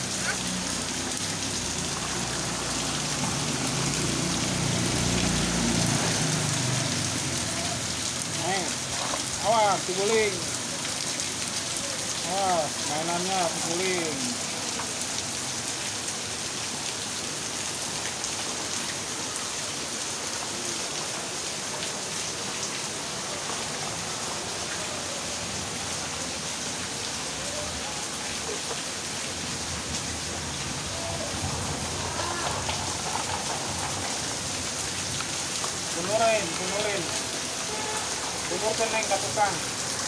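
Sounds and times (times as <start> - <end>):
rain on wet concrete: 0.0 - 40.0.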